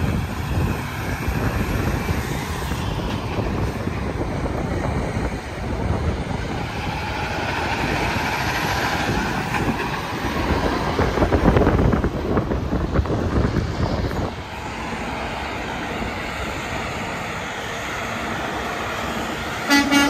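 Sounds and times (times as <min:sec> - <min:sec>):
highway traffic passing: 0:00.0 - 0:20.0.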